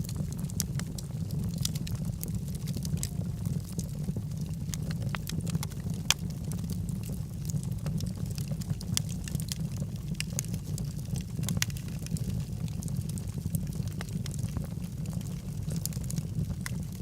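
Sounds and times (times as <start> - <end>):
fire rumbling: 0.0 - 17.0
logs crackling and popping: 0.0 - 17.0.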